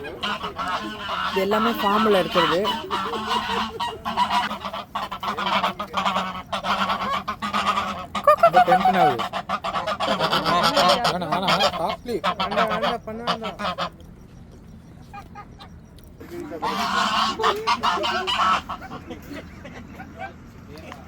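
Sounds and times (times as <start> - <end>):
poultry calling loudly: 0.0 - 14.1, 14.9 - 20.4.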